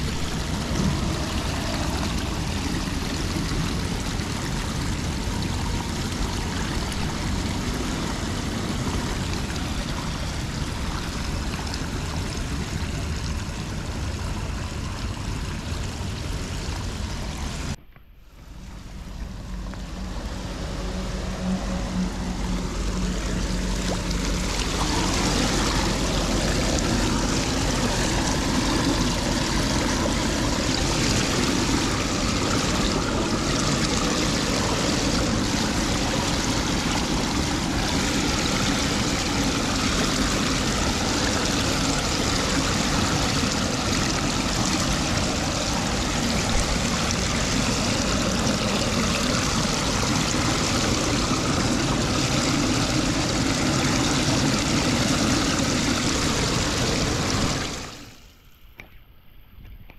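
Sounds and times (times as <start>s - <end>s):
water rushing into storm drain: 0.0s - 17.8s, 18.4s - 58.9s.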